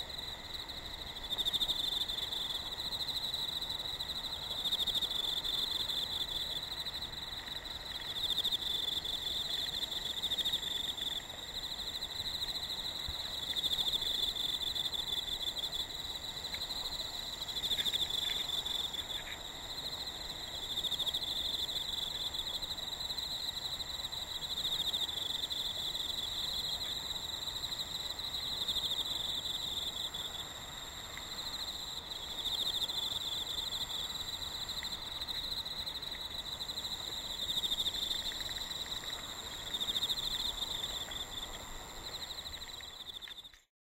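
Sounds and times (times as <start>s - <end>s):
insects trilling: 0.0s - 43.6s.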